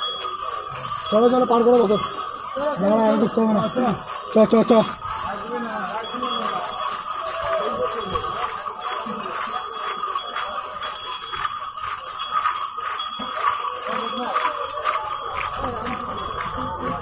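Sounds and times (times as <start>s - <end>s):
small bells jingling: 0.0s - 17.0s
voices calling out: 0.0s - 17.0s.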